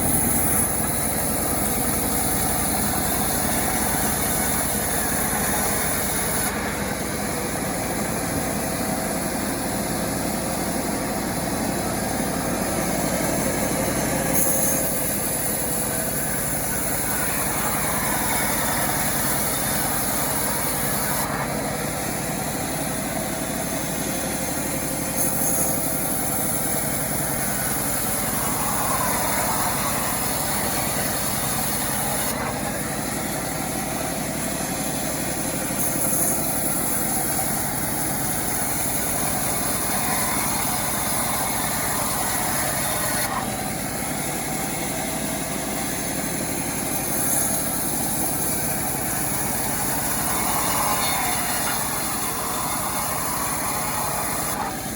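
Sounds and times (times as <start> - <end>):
chainsaw engine running: 0.0 - 54.9.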